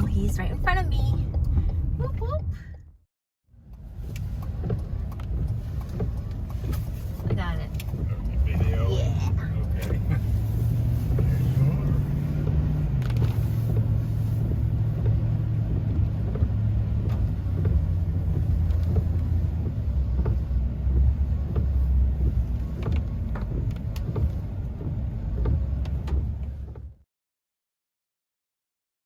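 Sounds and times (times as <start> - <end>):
car engine and road rumble: 0.0 - 27.1.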